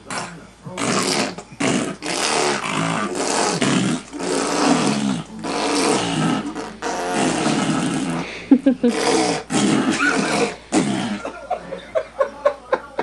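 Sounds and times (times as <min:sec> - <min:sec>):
man blowing raspberries: 0:00.0 - 0:11.4.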